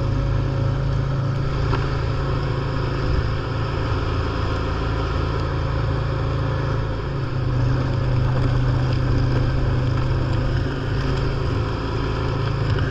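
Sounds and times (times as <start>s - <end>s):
lawn tractor engine running: 0.0s - 12.9s.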